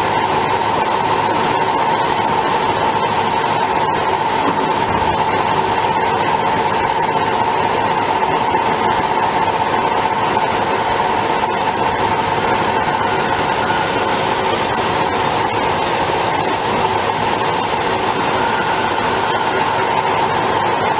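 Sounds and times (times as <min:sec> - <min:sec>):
drill spindle whine: 0:00.0 - 0:20.9.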